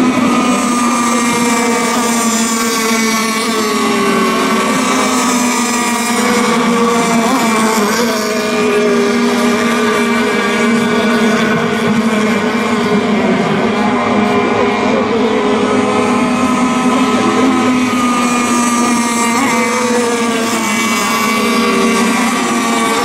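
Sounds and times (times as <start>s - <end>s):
racing boat motors buzzing: 0.0s - 23.0s.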